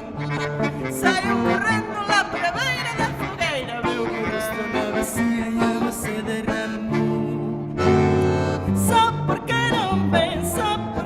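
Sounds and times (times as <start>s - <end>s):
folk band playing: 0.0s - 11.0s
sliding lead melody: 0.0s - 11.0s.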